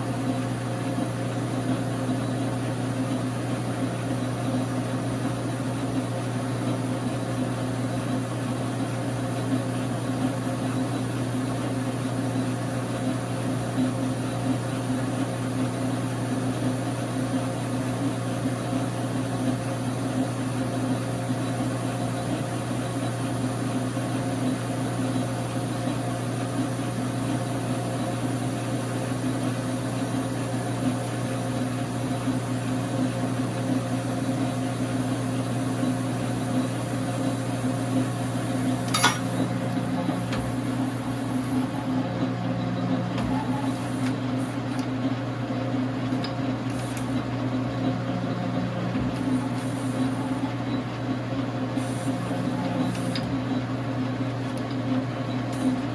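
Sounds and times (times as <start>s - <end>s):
lathe motor humming: 0.0s - 55.9s.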